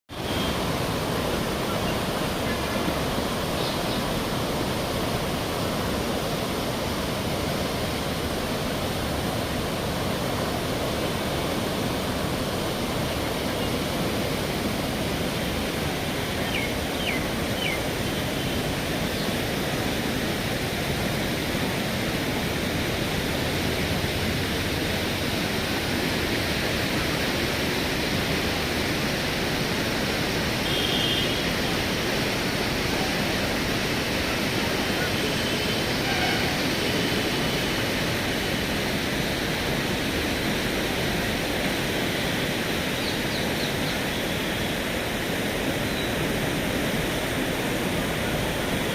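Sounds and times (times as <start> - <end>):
river water rushing: 0.1 - 48.9.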